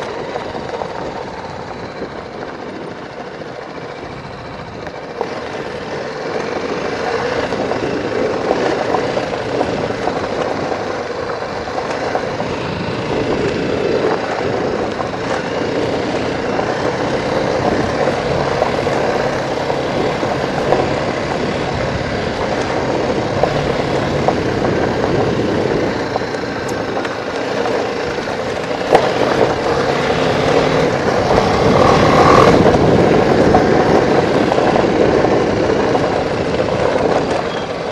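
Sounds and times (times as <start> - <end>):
motorcycle engine: 0.0 - 37.9
tyres on gravel: 0.0 - 37.9
wind noise: 0.0 - 37.9.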